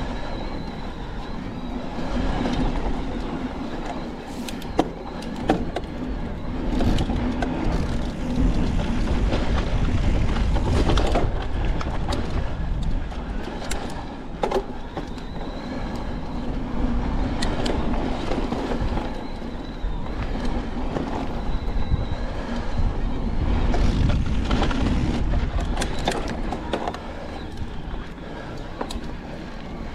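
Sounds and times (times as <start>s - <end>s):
bike clicks and rattles: 0.0s - 29.9s
tyres rumbling on dirt: 0.0s - 29.9s
wind on microphone: 0.0s - 29.9s.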